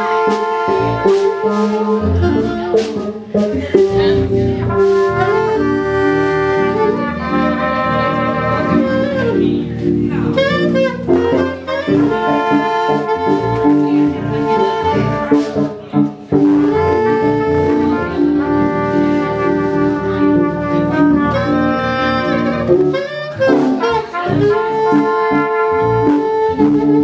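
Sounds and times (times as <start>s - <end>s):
jazz saxophone and brass: 0.0s - 27.0s.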